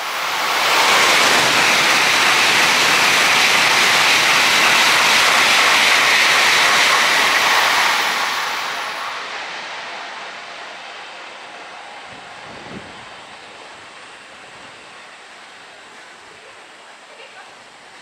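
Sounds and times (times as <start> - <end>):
train passing at high speed: 0.0 - 18.0.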